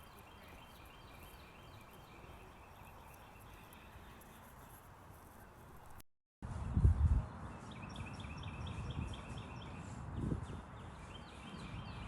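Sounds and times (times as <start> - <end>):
songbird chirping: 0.0 - 6.0, 6.6 - 12.0.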